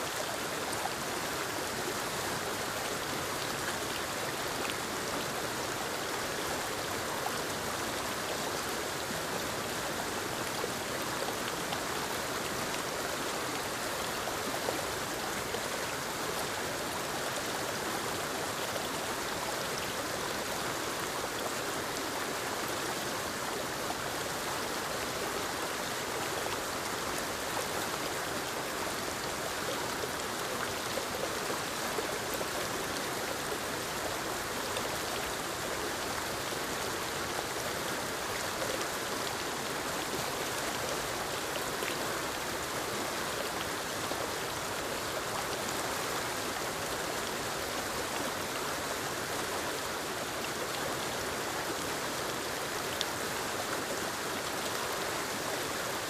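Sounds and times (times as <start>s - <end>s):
waterfall rushing over rocks: 0.0s - 56.0s.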